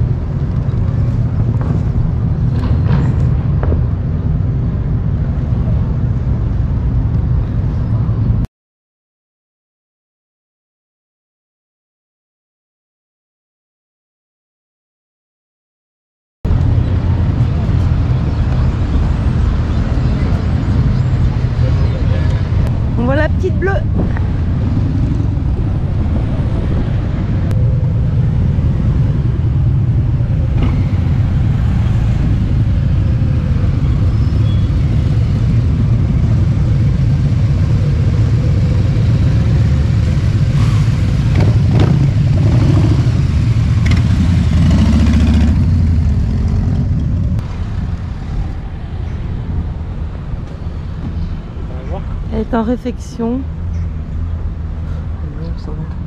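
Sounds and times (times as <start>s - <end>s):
road and wind noise: 0.0s - 8.5s, 16.4s - 56.0s.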